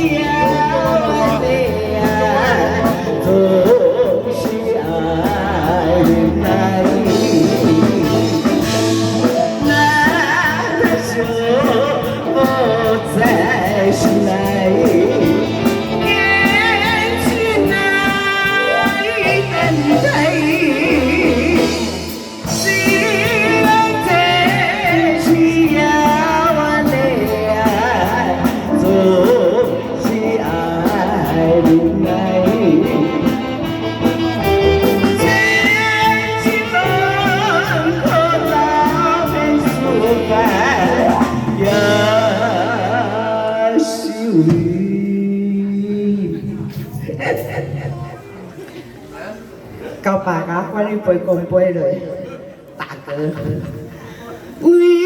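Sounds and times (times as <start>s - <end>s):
instrumental backing music: 0.0s - 47.0s
person singing: 0.0s - 48.1s, 54.6s - 55.0s.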